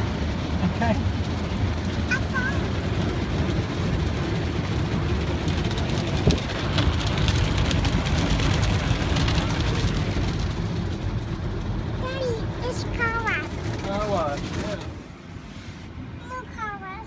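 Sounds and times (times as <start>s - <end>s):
water spray pattering on car: 0.0s - 15.9s
car wash rumble inside car: 0.0s - 17.0s.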